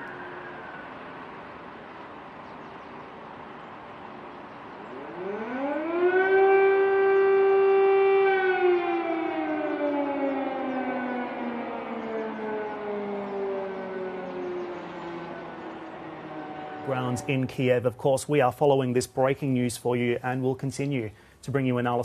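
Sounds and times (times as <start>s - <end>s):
air raid siren wailing: 0.0s - 17.9s.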